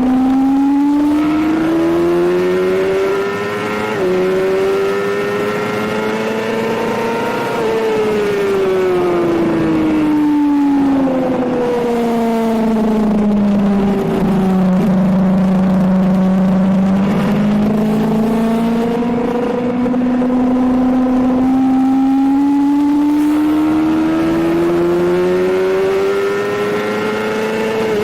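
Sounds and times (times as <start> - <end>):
sportbike engine revving: 0.0 - 28.0
wind rush: 5.2 - 28.0.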